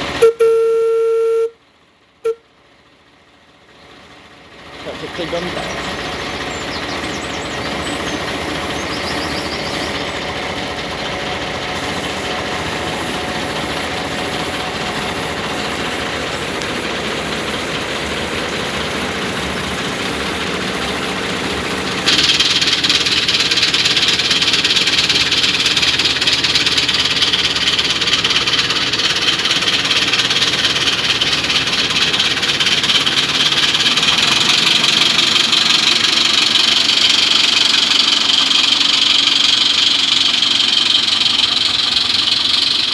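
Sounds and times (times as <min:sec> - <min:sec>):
locomotive diesel engine running: 0:00.0 - 0:42.9
strong hiss: 0:08.1 - 0:42.9.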